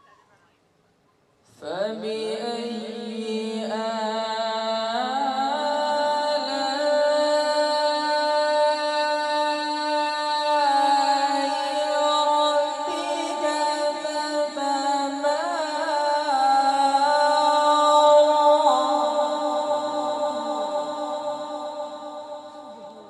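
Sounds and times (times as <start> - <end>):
man reciting melodically into microphone: 1.5 - 23.0.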